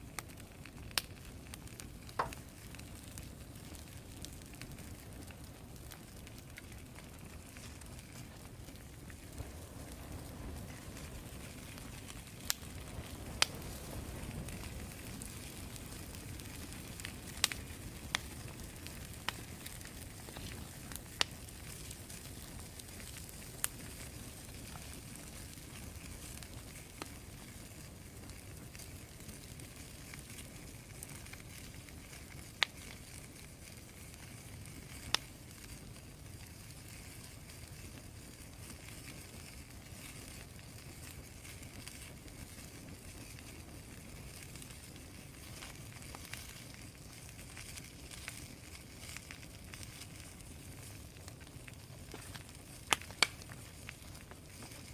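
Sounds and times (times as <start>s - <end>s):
wood fire burning: 0.0s - 54.9s
sharp pops of fire: 0.1s - 54.9s.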